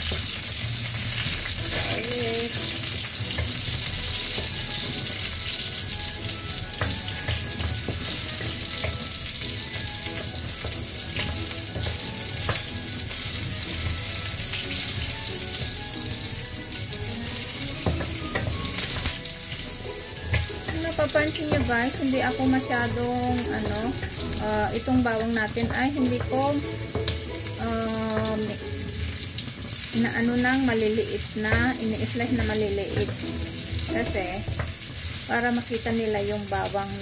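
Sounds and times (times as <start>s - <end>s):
garlic sizzling in oil: 0.0s - 37.0s.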